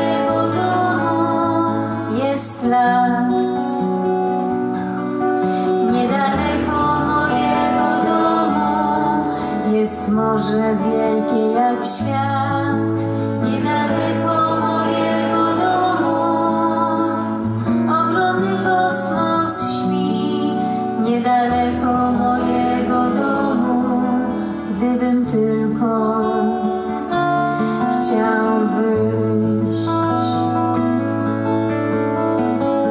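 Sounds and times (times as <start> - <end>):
woman singing: 0.0 - 30.9
acoustic guitar: 0.0 - 32.9.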